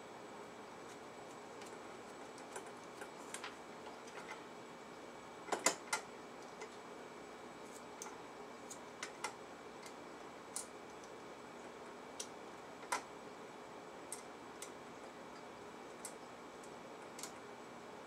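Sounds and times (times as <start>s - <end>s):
faint hiss with thin hum: 0.0s - 18.0s.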